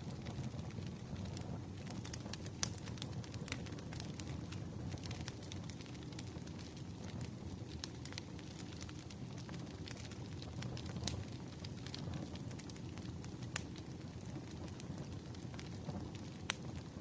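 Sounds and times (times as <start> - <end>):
fire flames rumbling: 0.0 - 17.0
firewood crackling and popping: 0.0 - 17.0.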